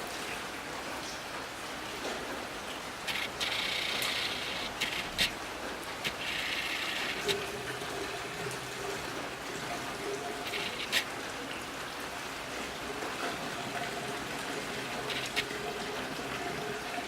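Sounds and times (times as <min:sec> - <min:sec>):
running water hiss: 0:01.7 - 0:17.0.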